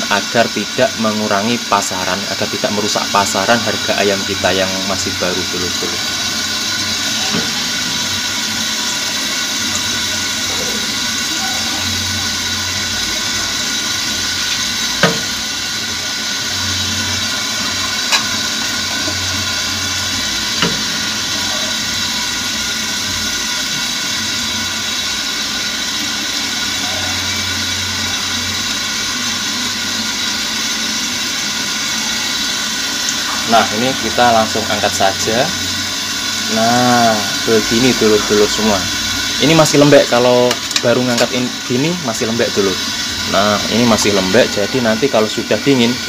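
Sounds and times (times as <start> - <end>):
chicken sizzling in hot oil: 0.0 - 46.0.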